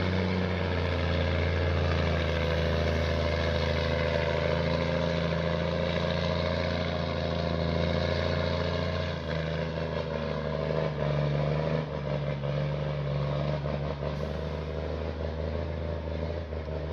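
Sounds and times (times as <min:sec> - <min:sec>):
large engine running: 0:00.0 - 0:16.9.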